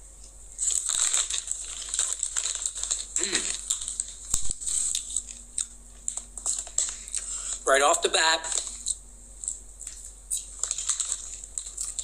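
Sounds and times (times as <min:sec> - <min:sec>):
plastic bag crinkling: 0:00.6 - 0:12.0.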